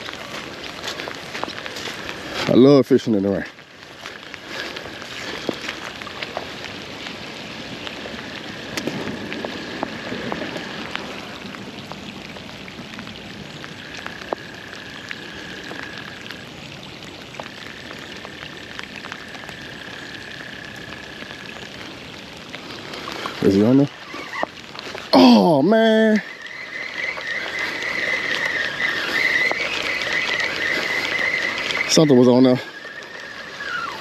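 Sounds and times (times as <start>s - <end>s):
rain pattering: 0.0s - 34.0s.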